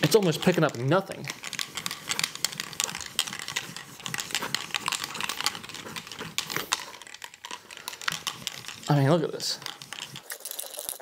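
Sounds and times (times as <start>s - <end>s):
lint roller crackling on fabric: 0.0s - 10.2s.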